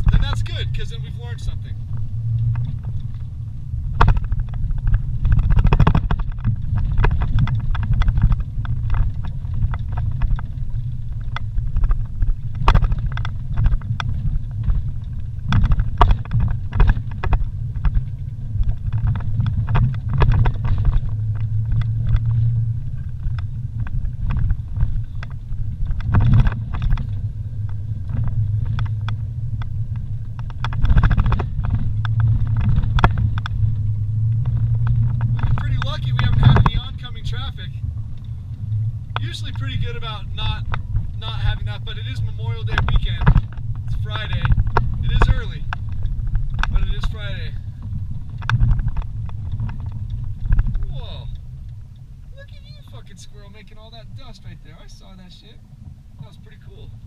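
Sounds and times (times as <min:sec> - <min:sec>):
vehicle knocks and rattles: 0:00.0 - 0:54.4
vehicle engine rumbling: 0:00.0 - 0:57.0.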